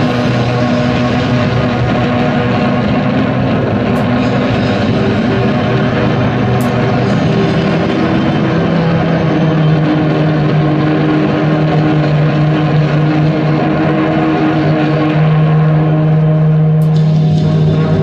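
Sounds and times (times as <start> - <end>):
noise music drone: 0.0 - 18.0.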